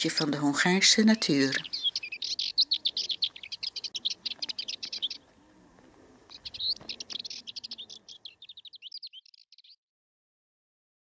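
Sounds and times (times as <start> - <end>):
songbird chirping: 0.0 - 9.8.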